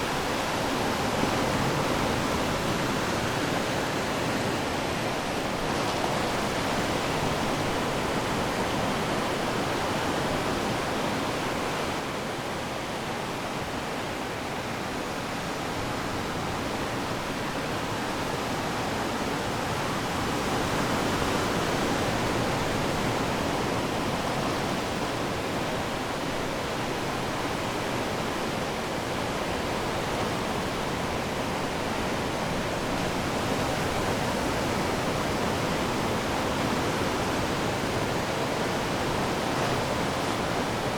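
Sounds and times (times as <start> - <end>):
ocean surf washing ashore: 0.0 - 40.9.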